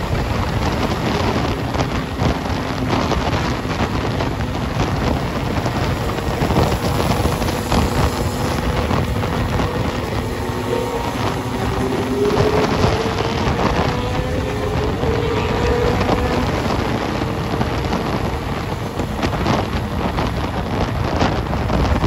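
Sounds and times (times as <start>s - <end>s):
engine and road noise: 0.0s - 22.0s
wind rushing over microphone: 0.0s - 22.0s.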